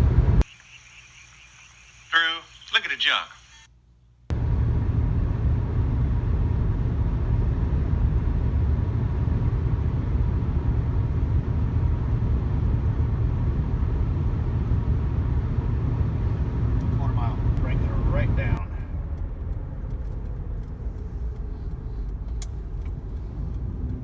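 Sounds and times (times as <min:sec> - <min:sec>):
road and engine rumble in car: 0:00.0 - 0:00.5, 0:04.3 - 0:24.0.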